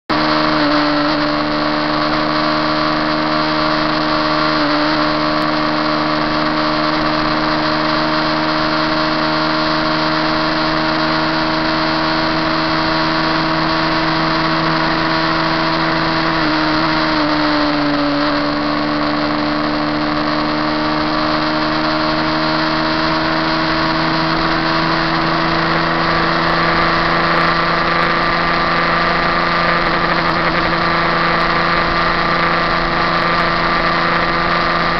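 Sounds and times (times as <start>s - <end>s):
motorcycle engine at high revs: 0.0s - 34.9s.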